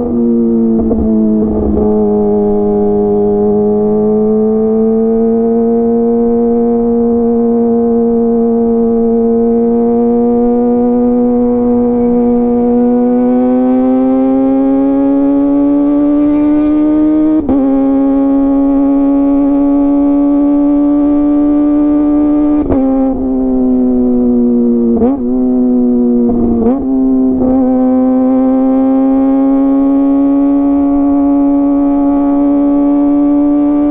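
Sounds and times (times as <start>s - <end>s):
motorcycle engine at high revs: 0.0s - 33.9s.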